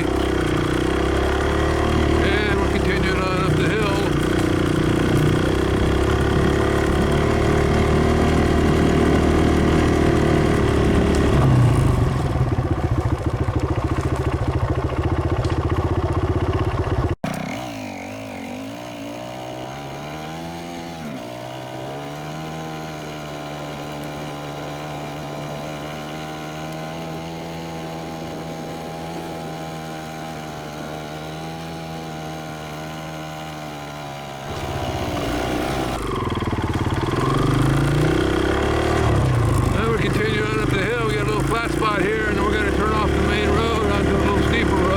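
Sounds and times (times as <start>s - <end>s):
dirt bike engine: 0.0s - 44.9s.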